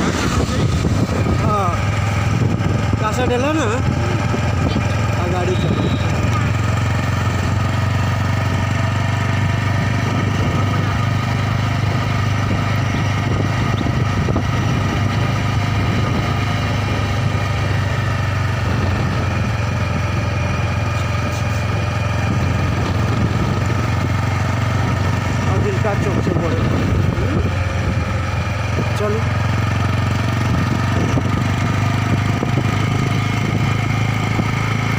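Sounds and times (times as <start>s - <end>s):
motorcycle engine running steadily: 0.0s - 34.9s.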